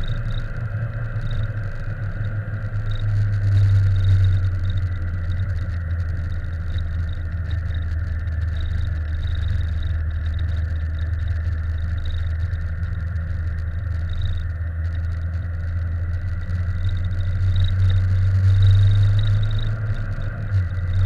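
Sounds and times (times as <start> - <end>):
vehicle rumbling: 0.0 - 21.0.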